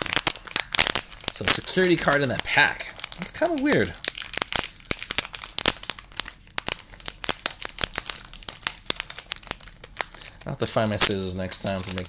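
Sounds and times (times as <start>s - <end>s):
plastic wrapper tearing and crinkling: 0.0s - 12.0s.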